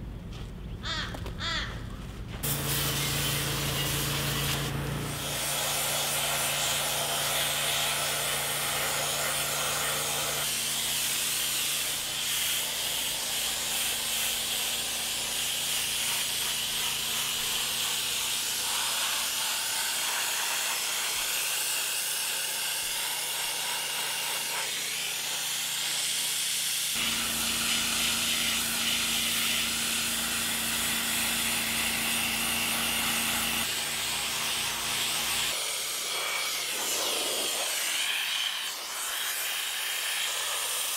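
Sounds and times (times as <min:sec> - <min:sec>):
water spray hissing on metal: 0:02.4 - 0:40.9.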